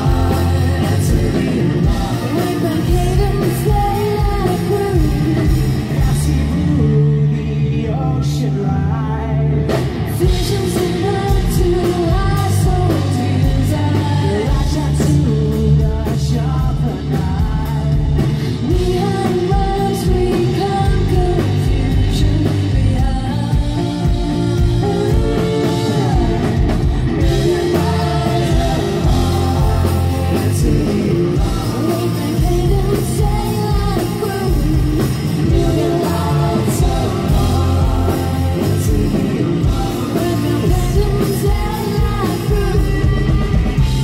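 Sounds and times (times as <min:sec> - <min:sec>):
drum kit: 0:00.0 - 0:07.4, 0:09.7 - 0:44.0
woman singing: 0:00.0 - 0:09.5, 0:10.1 - 0:43.8
electric bass: 0:00.0 - 0:44.0
electric guitar: 0:00.0 - 0:44.0.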